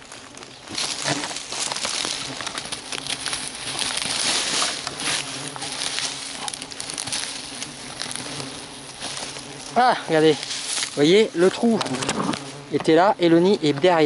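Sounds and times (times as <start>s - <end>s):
dry leaves crackling and rustling: 0.0s - 12.6s
hornets buzzing faintly: 0.0s - 14.0s.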